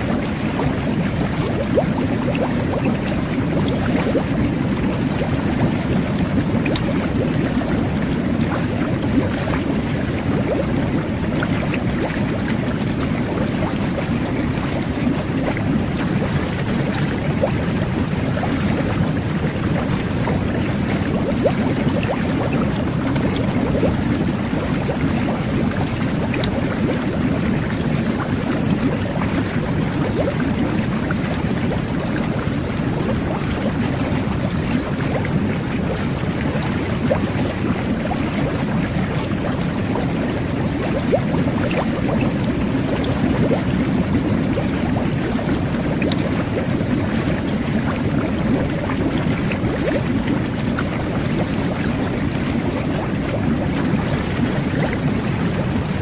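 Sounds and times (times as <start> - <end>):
jet bath water churning and bubbling: 0.0 - 56.0.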